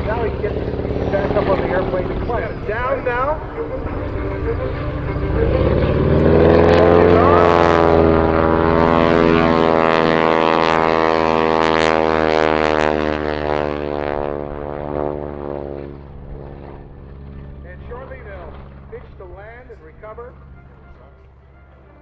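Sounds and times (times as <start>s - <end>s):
biplane propeller engine: 0.0s - 22.0s.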